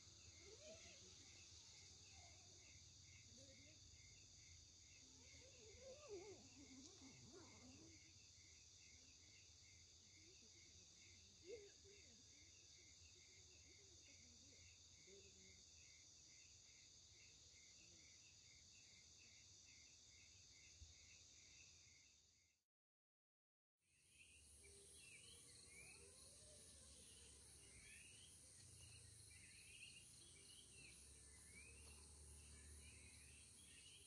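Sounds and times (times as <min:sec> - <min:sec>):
insects trilling: 0:00.0 - 0:22.1, 0:24.1 - 0:34.0
insect pulsing chirp: 0:00.0 - 0:22.2, 0:24.1 - 0:34.0.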